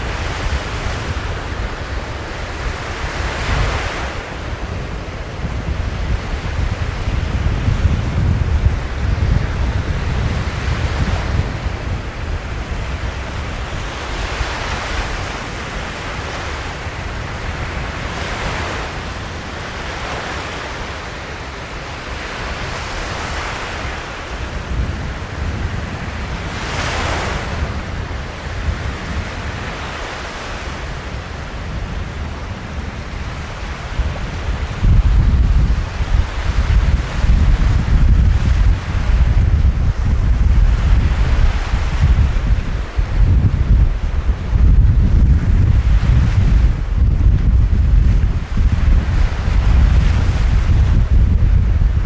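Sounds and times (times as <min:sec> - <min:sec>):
surf breaking on shore: 0:00.0 - 0:52.0
wind buffeting microphone: 0:00.0 - 0:52.0.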